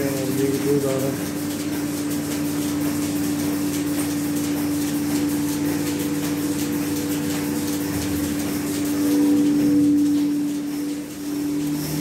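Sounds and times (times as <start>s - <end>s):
milking machine hum: 0.0s - 12.0s.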